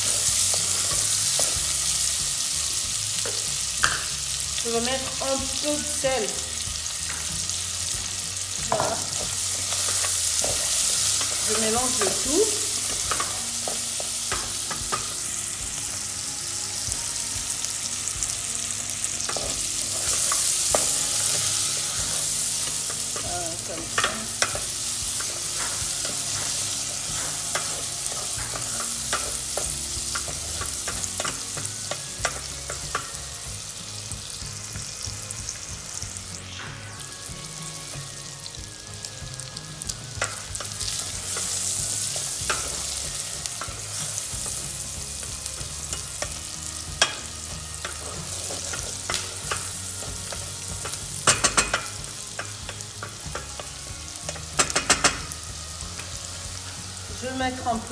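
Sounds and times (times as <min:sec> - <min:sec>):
bacon sizzling in oil: 0:00.0 - 0:57.9.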